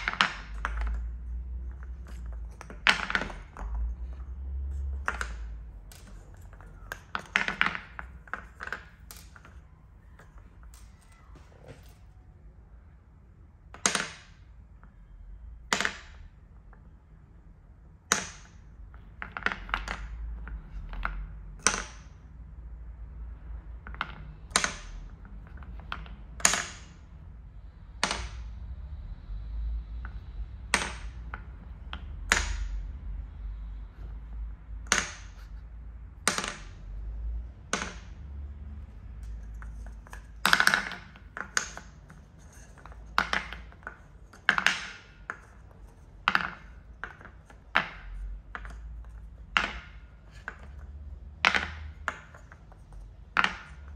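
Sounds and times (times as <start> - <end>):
wooden balls clacking into cups: 0.0 - 12.1, 13.8 - 15.0, 15.6 - 16.9, 18.1 - 22.4, 23.0 - 53.9.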